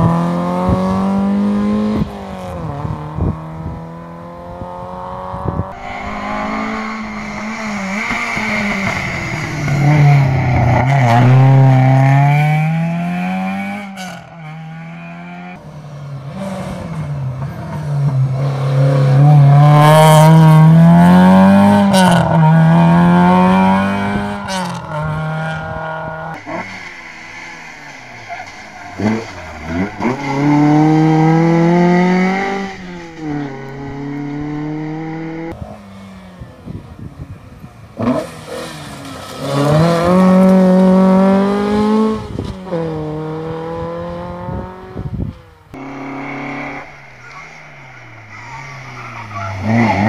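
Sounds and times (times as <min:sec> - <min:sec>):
rally car engine revving hard: 0:00.0 - 0:15.6, 0:16.3 - 0:35.8, 0:38.0 - 0:50.0
rally car revving: 0:00.0 - 0:50.0.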